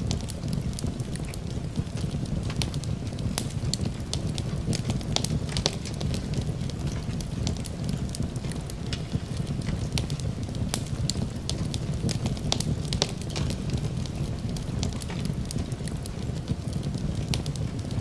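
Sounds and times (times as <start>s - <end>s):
steady rain: 0.0s - 18.0s
wood fire crackling and popping: 0.0s - 18.0s.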